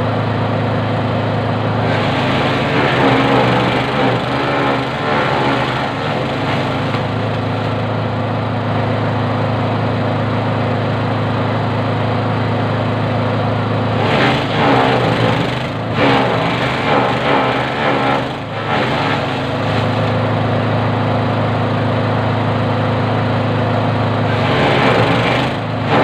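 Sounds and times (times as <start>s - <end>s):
grass chopper motor droning: 0.0s - 26.0s.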